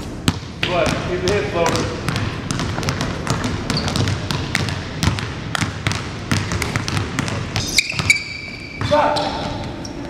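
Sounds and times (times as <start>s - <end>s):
basketball bouncing on wood floor: 0.2s - 9.8s.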